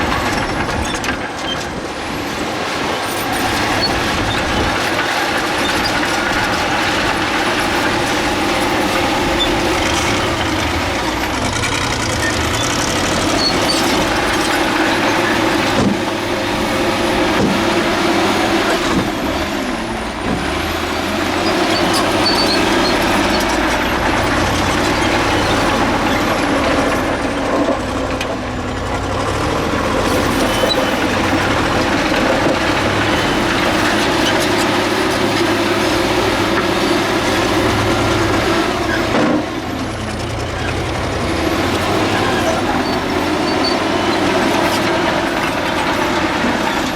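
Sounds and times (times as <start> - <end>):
heavy machinery diesel engines: 0.0 - 46.9.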